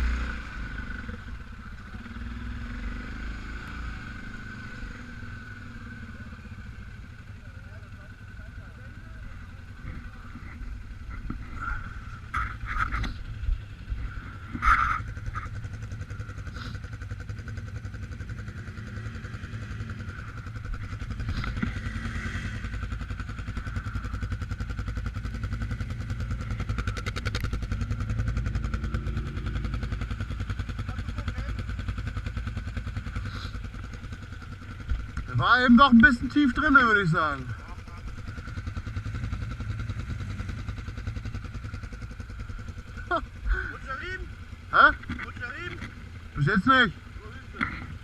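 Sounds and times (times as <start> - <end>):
atv engine running under load: 0.0 - 48.0.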